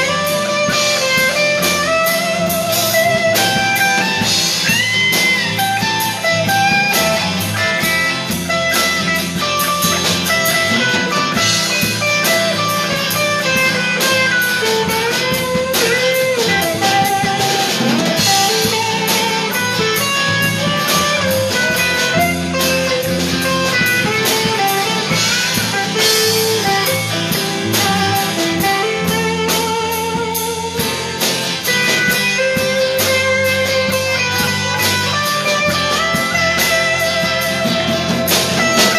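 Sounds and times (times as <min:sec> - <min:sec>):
lead guitar bent notes: 0:00.0 - 0:38.9
live blues band playing: 0:00.0 - 0:38.9.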